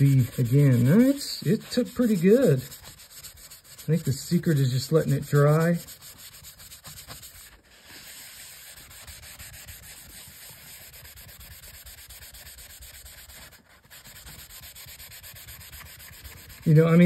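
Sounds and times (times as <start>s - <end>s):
sanding pad rubbing on steel: 0.0s - 17.0s.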